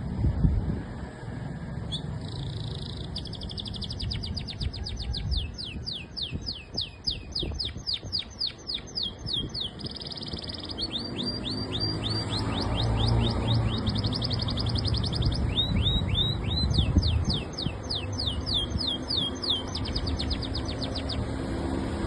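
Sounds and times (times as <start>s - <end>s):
songbird singing: 1.8s - 22.0s.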